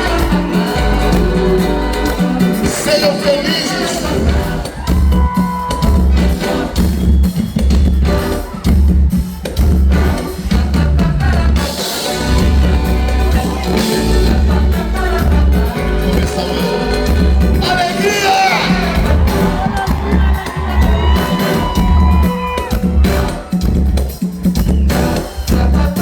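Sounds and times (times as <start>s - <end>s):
live band music over loudspeakers: 0.0s - 26.0s.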